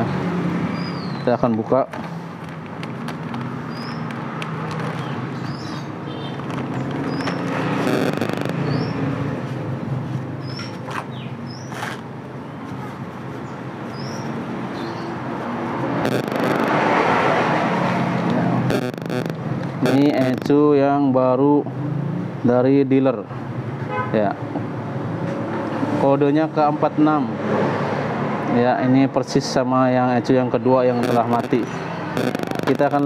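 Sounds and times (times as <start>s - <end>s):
steady traffic noise: 0.0s - 33.0s.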